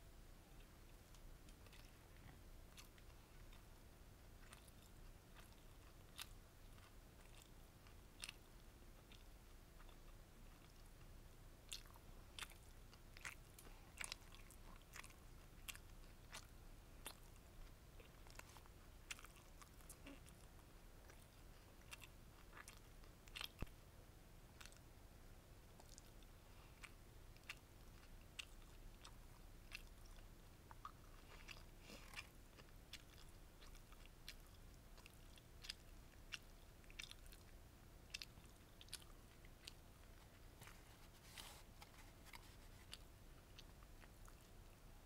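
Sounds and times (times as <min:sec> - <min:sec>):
chewing with soft crunches: 0:00.5 - 0:45.0.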